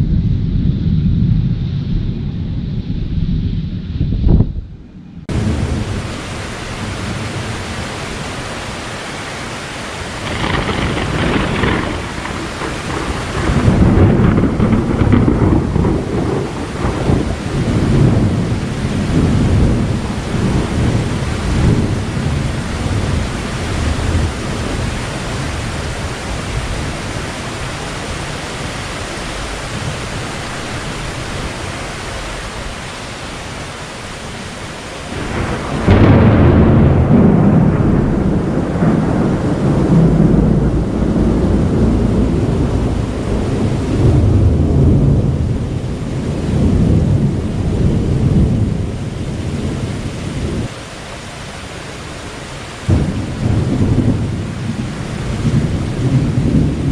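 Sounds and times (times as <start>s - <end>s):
thunder crack and rumble: 0.0s - 8.1s, 10.1s - 31.7s, 34.3s - 50.8s, 52.8s - 56.9s
steady rain: 5.2s - 56.9s.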